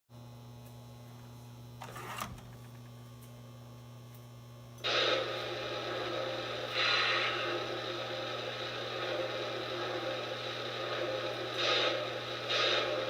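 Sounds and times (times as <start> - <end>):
electrical hum: 0.1 - 13.0.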